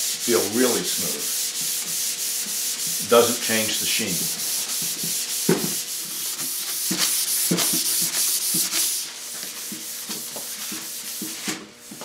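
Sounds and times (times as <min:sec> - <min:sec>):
paper rubbing on wood: 0:00.0 - 0:12.0.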